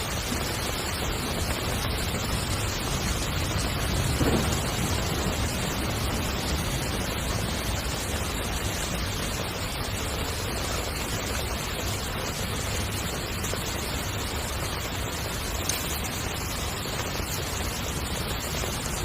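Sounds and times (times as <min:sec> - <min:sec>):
heavy rain on a tent: 0:00.0 - 0:19.0.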